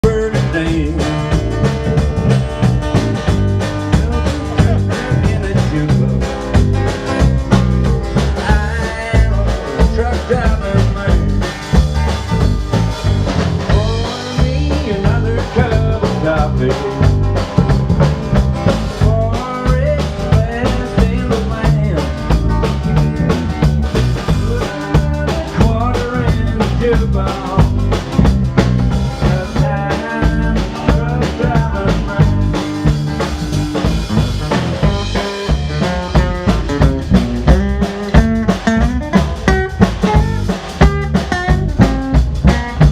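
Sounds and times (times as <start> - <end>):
country band playing: 0.0 - 42.9
drum kit rimshots: 0.0 - 42.9.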